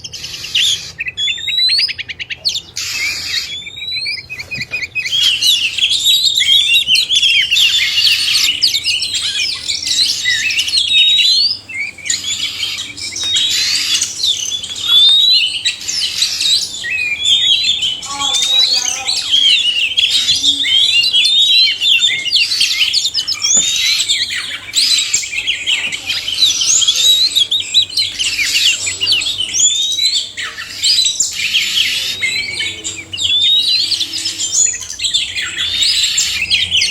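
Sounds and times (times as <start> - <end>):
birds singing trills and whistles: 0.0 - 36.9.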